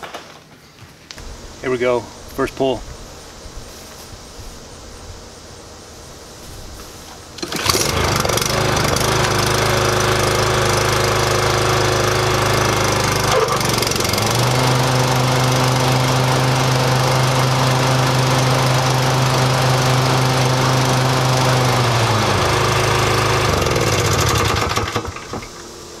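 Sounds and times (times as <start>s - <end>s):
lawn mower engine running: 1.2s - 4.7s, 5.3s - 26.0s.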